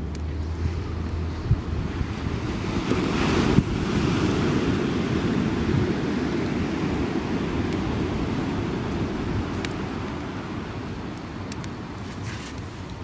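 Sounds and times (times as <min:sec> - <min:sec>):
ocean surf rumble: 0:00.0 - 0:13.0
wood fire crackling: 0:00.0 - 0:13.0
wind on microphone: 0:00.4 - 0:11.2.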